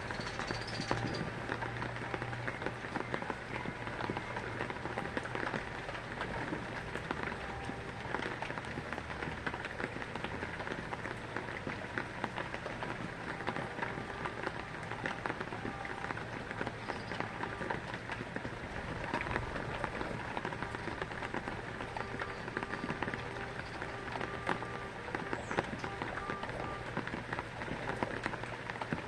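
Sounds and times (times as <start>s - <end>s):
heavy rain pattering: 0.0s - 29.0s.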